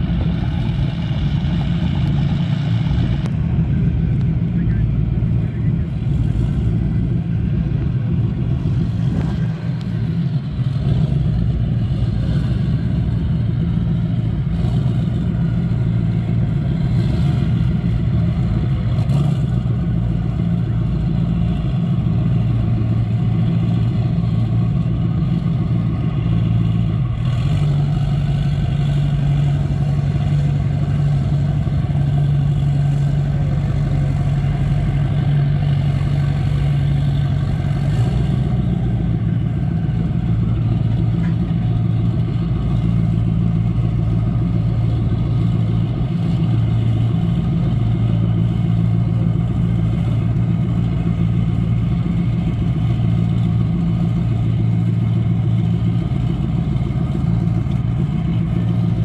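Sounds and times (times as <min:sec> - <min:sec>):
powerboat engines idling: 0:00.0 - 0:59.0.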